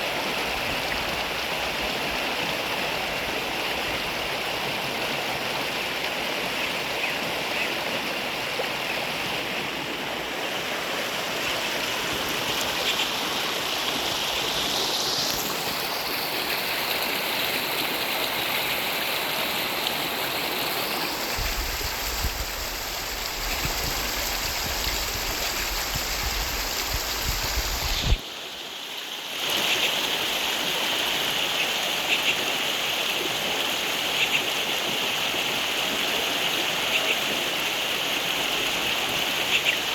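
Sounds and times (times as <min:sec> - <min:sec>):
running water in heavy rain: 0:00.0 - 0:39.9.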